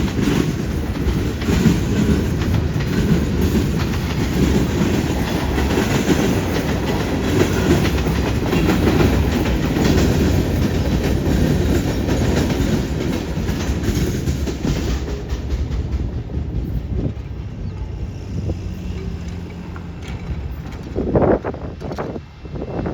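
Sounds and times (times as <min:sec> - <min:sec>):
train wheels clattering over rails: 0:00.0 - 0:22.9.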